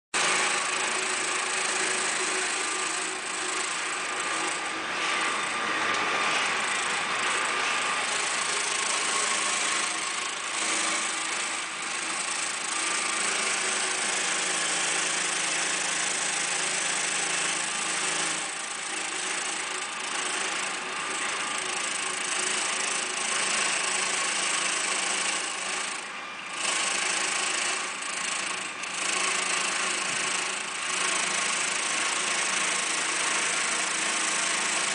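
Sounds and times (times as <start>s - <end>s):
concrete grinder running: 0.2s - 34.9s.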